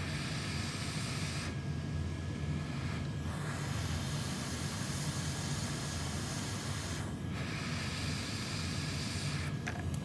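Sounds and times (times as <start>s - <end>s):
hot air station hissing: 0.0s - 10.0s
low fan hum: 0.0s - 10.0s.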